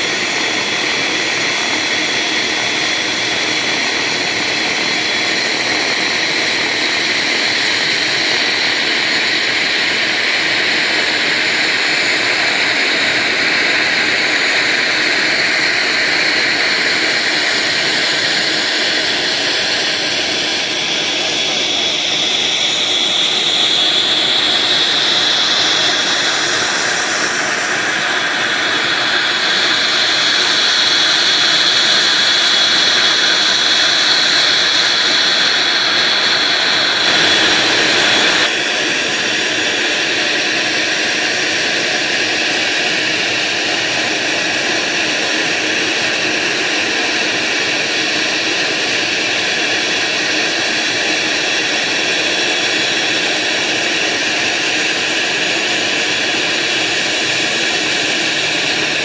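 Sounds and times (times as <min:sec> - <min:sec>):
turboprop engine running: 0:00.0 - 0:59.0.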